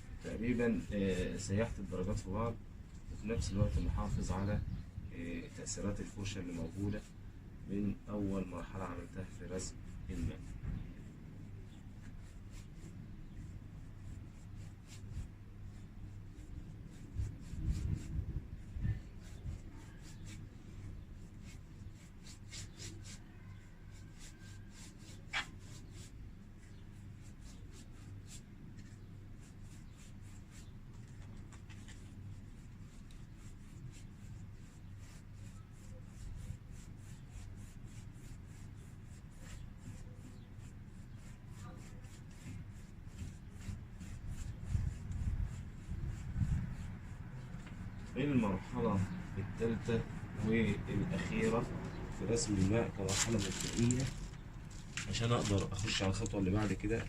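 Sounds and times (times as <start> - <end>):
low electrical hum: 0.0 - 57.0
brush strokes on paper: 0.1 - 57.0.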